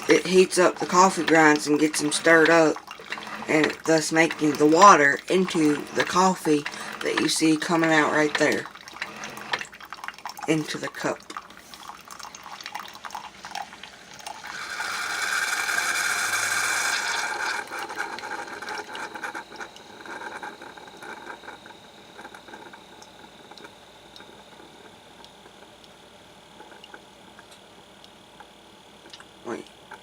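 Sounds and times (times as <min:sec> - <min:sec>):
coffee maker hissing: 0:00.0 - 0:30.0
coffee trickling and dripping: 0:00.0 - 0:30.0.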